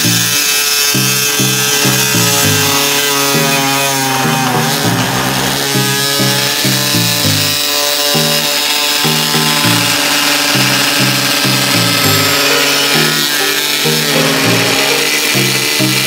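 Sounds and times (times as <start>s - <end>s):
background music with bass line: 0.0s - 16.0s
body saw cutting sheet metal: 0.0s - 16.0s.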